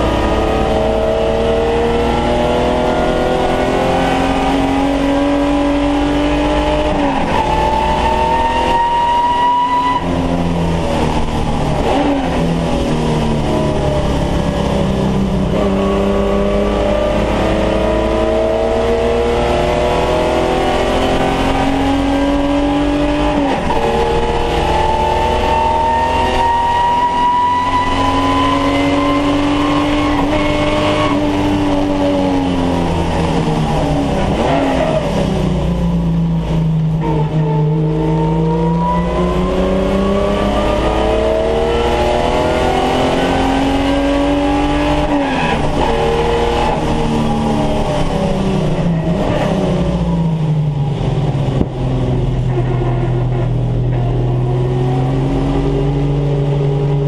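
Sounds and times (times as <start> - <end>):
race car engine from inside cabin: 0.0 - 57.0
road and wind noise: 0.0 - 57.0.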